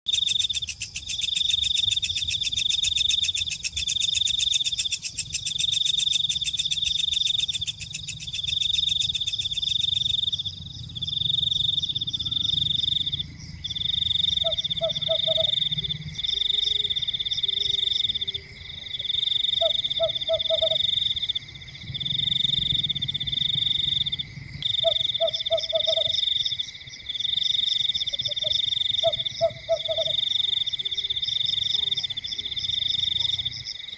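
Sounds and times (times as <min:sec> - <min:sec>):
frog pulsing trill: 0:00.1 - 0:26.6, 0:27.4 - 0:33.6
frog croaking: 0:00.1 - 0:33.9.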